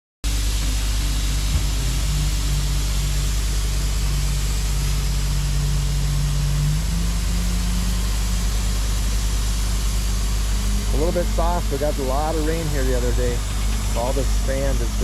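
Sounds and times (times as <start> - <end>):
excavator diesel engine running: 0.3 - 15.0
steady hiss: 0.3 - 15.0.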